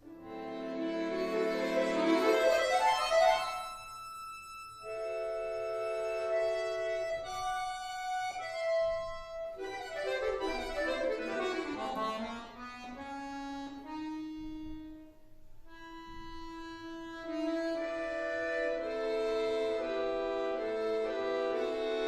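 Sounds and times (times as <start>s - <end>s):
button accordion playing folk song: 0.0s - 22.0s.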